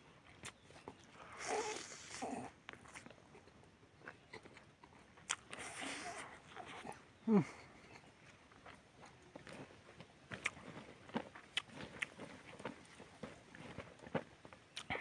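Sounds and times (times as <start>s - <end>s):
man chewing: 0.2s - 15.0s.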